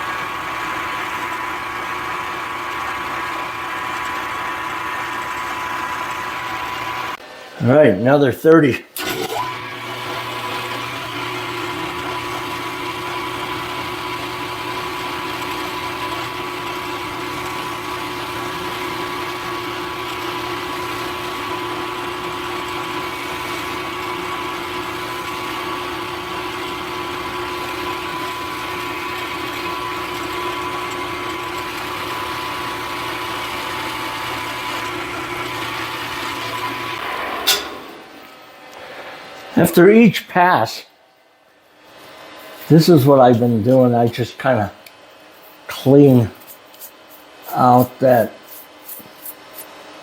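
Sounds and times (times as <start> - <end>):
milling machine whining: 0.0 - 7.3, 9.0 - 40.0, 41.9 - 49.8.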